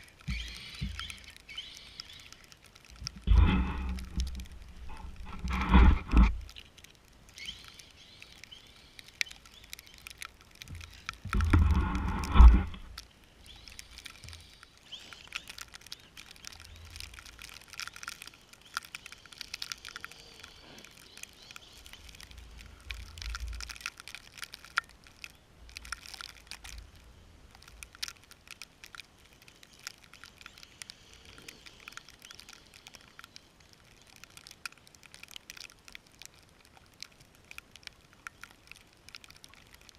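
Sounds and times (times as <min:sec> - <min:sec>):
snow crackling under tyres: 0:00.0 - 0:39.9.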